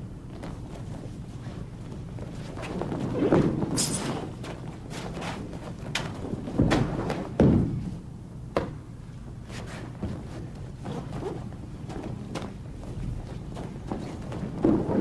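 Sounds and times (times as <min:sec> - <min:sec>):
bodies thudding on a mat: 0:00.3 - 0:08.8, 0:09.5 - 0:15.0
feet stepping on a mat: 0:00.3 - 0:15.0.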